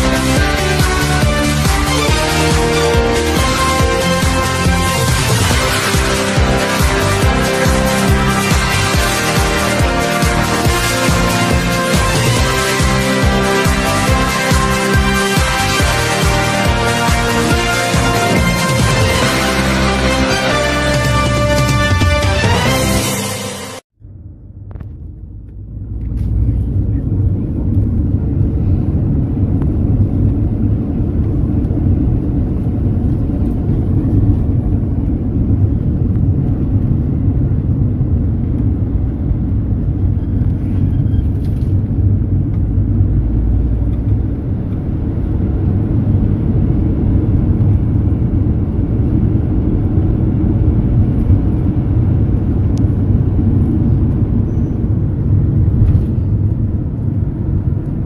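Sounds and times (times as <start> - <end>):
minibus engine and road noise: 0.0 - 58.0.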